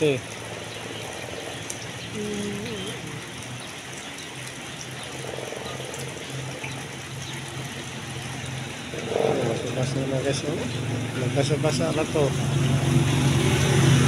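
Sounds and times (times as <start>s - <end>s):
steady rain hiss: 0.0s - 13.7s.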